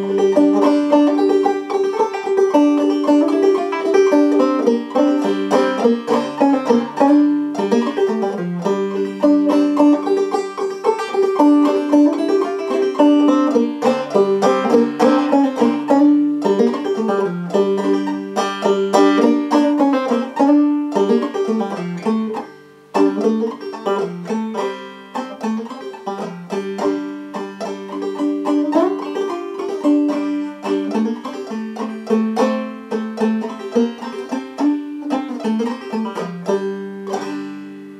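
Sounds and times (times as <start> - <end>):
banjo plucked clawhammer style: 0.0 - 37.9.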